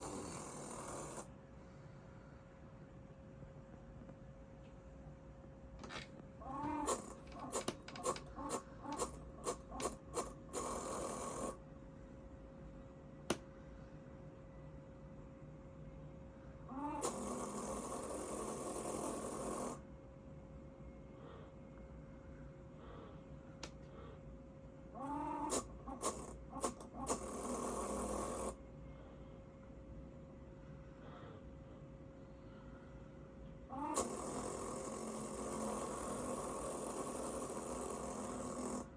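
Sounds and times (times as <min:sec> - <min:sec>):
faint steady whine: 0:00.0 - 0:38.9.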